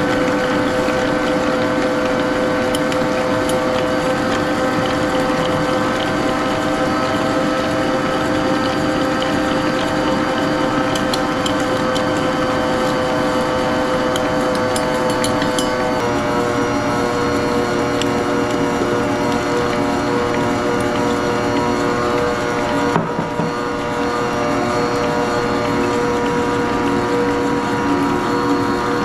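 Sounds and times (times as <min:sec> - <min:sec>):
stand mixer motor hum: 0:00.0 - 0:29.0.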